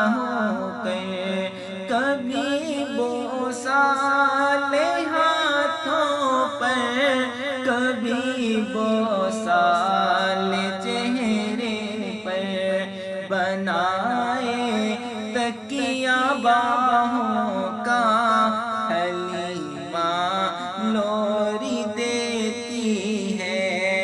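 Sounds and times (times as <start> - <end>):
man singing devotional chant: 0.0 - 24.0.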